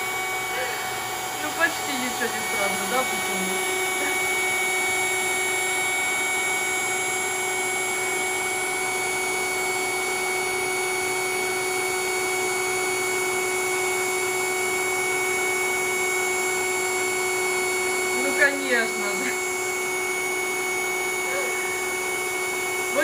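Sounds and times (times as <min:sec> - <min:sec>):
electric air pump humming: 0:00.0 - 0:23.0.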